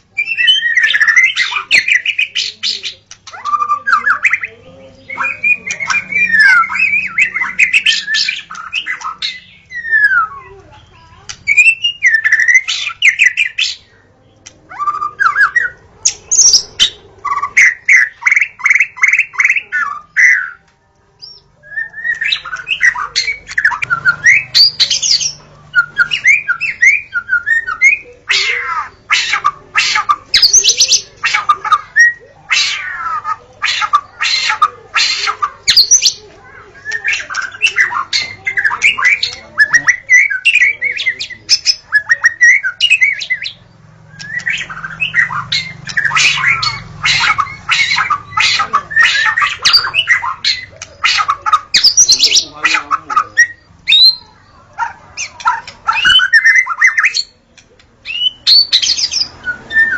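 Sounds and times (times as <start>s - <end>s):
harsh rattling bird chatter: 0.0s - 20.6s, 21.2s - 59.9s
bird singing whistled phrases: 0.1s - 4.5s, 5.1s - 10.6s, 11.5s - 13.8s, 21.2s - 36.2s, 36.8s - 54.4s, 55.2s - 57.3s, 58.0s - 59.9s.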